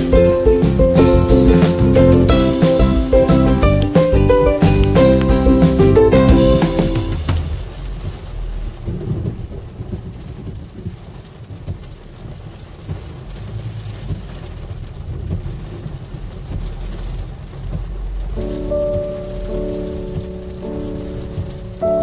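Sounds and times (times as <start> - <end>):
rain hitting windshield: 0.0 - 22.0.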